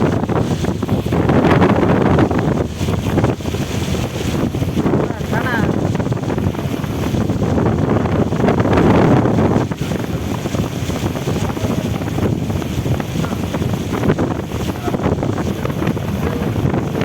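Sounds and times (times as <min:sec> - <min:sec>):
floodwater rushing: 0:00.0 - 0:17.0
wind buffeting microphone: 0:00.0 - 0:17.0.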